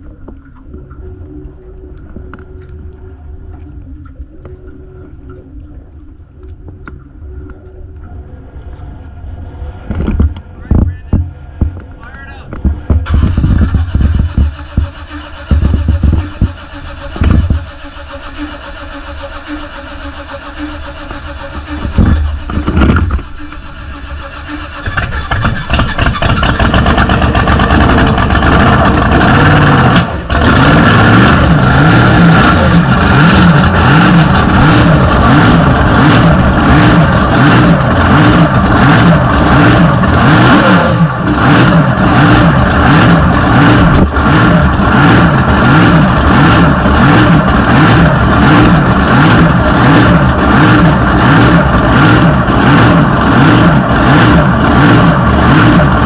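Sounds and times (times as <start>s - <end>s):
loud boat engine running: 0.0s - 56.0s.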